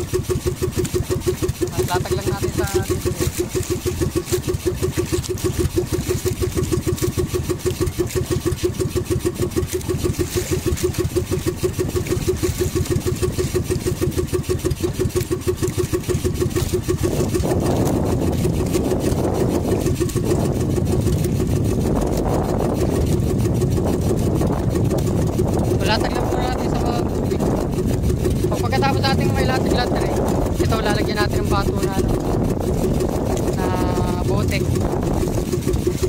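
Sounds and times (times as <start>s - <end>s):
boat engine puttering: 0.0s - 36.0s
water rushing: 0.0s - 36.0s.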